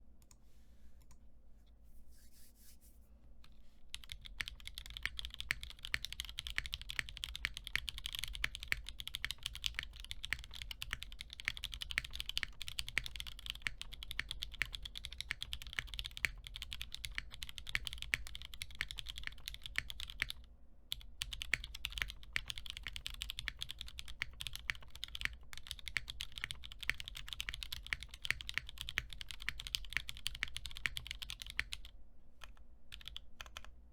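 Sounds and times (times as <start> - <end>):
fast mechanical keyboard typing: 3.9 - 33.7.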